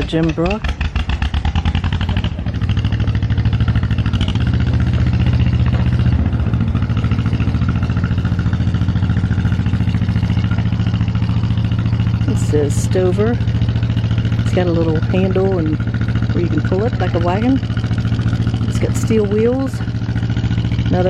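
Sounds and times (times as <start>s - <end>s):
engine chugging: 0.0s - 21.0s.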